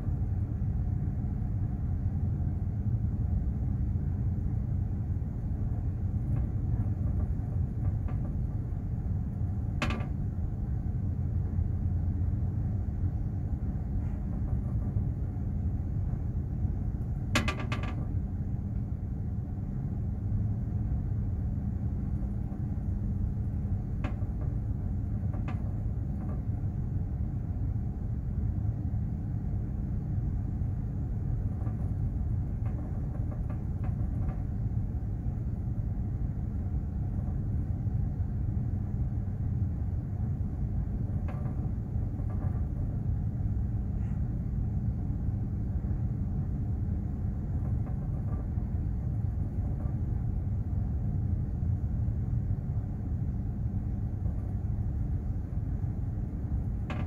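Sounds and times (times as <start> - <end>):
ship engine rumble and hum: 0.0 - 57.0.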